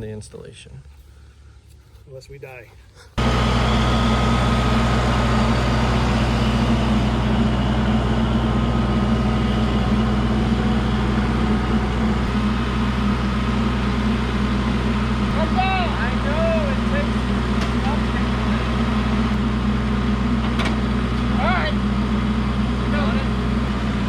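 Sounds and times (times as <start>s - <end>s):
large engine droning: 3.2s - 24.0s.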